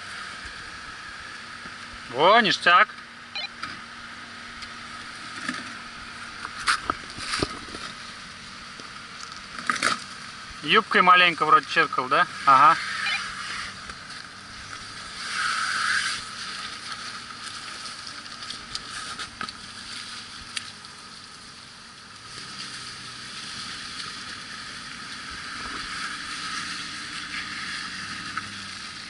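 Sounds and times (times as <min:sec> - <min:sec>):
faint low engine hum: 0:00.0 - 0:29.0
steady rushing hiss: 0:00.0 - 0:29.0.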